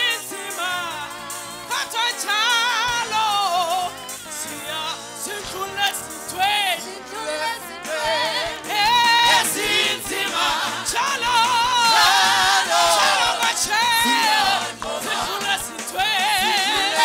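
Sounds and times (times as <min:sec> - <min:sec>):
women singing through loudspeakers: 0:01.7 - 0:03.9, 0:04.5 - 0:17.0.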